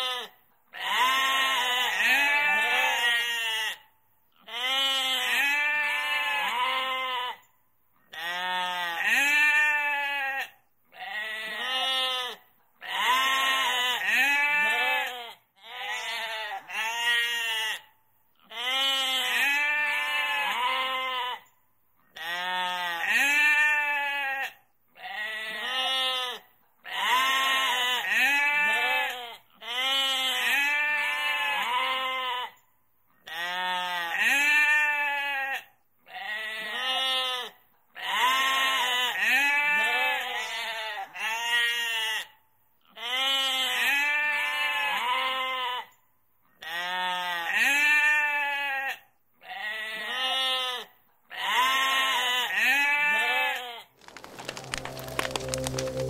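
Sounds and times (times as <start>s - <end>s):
sheep and goats bleating: 0.0s - 7.5s, 8.1s - 21.5s, 22.1s - 32.6s, 33.2s - 46.0s, 46.6s - 56.0s.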